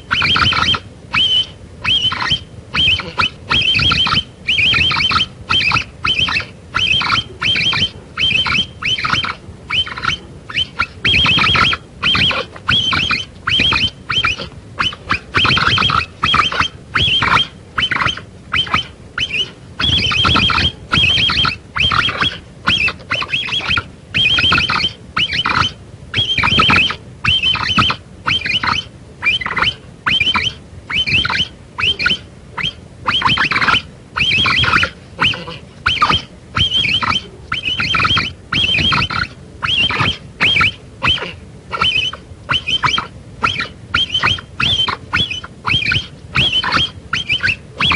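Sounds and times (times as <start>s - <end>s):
capybara calls: 0.0s - 47.9s.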